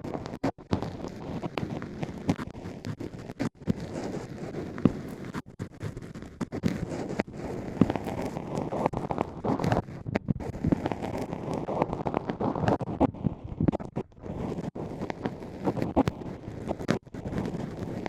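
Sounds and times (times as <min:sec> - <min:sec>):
scratchy rustling and scraping: 0:00.0 - 0:18.0
small crackles: 0:00.0 - 0:18.0.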